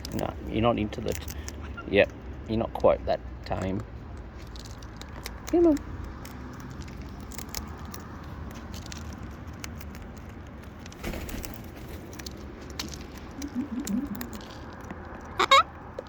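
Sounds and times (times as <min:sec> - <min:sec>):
beaks cracking seed: 0:00.0 - 0:02.2, 0:03.6 - 0:11.5, 0:12.2 - 0:15.5
low background rumble: 0:00.0 - 0:16.0.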